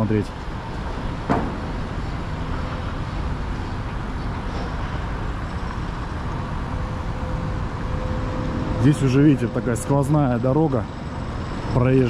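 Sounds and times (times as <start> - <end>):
city traffic noise: 0.0 - 12.0.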